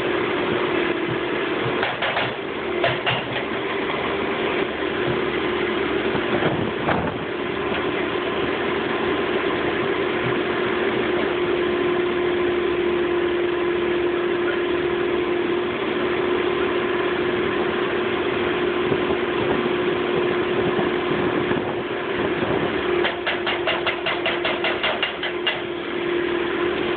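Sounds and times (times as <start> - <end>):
constant whine: 0.0 - 26.9
diesel engine running: 0.0 - 26.9.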